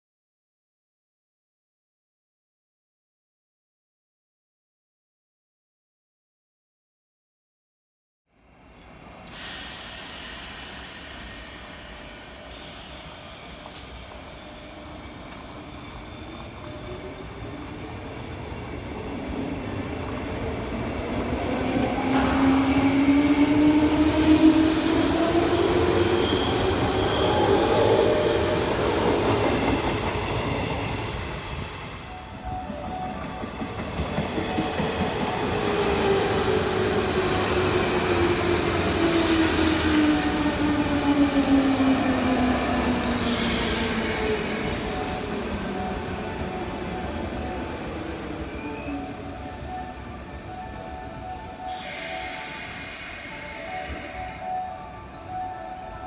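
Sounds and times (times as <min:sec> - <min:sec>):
train rail noise: 0:08.6 - 0:56.0.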